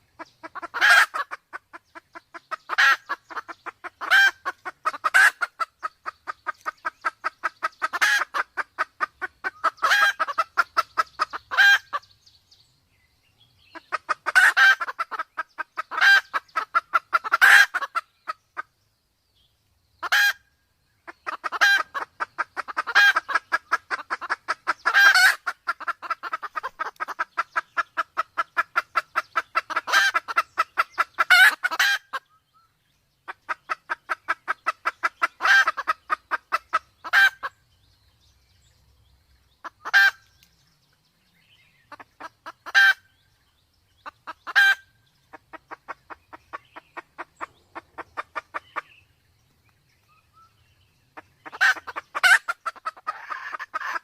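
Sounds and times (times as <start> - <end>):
junglefowl clucking: 0.0 - 12.1, 13.7 - 18.7, 20.0 - 32.5, 33.2 - 37.6, 39.5 - 40.5, 41.8 - 43.3, 44.0 - 49.1, 50.3 - 54.0.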